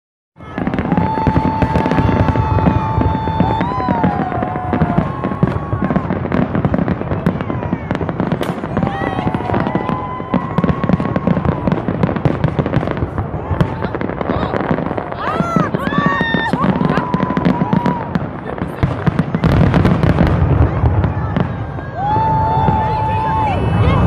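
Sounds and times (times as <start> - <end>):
firework whistling: 0.4 - 24.0
fireworks crackling and banging: 0.4 - 24.0.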